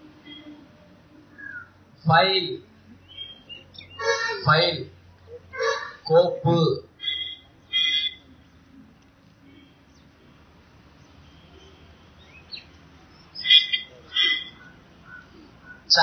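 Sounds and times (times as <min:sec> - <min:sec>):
birds chirping: 0:00.0 - 0:16.0
faint steady background noise: 0:00.0 - 0:16.0.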